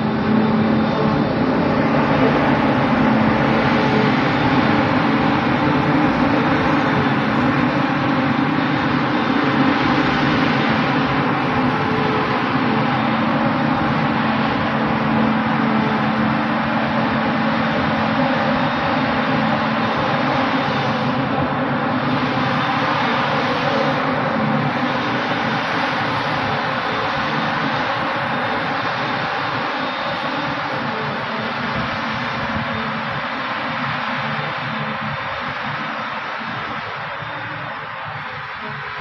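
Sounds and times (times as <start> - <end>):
forage harvester engine drone: 0.0 - 39.0.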